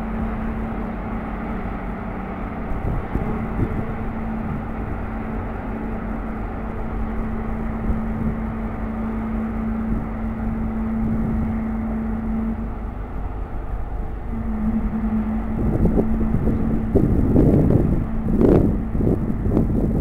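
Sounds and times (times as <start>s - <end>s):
constant hum: 0.0s - 20.0s
ship diesel engine drone: 0.0s - 20.0s.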